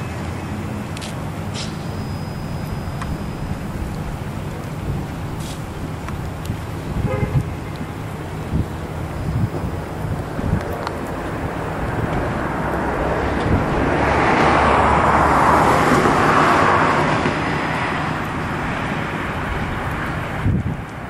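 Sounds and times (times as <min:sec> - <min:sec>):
road vehicle passing by: 0:00.0 - 0:21.0.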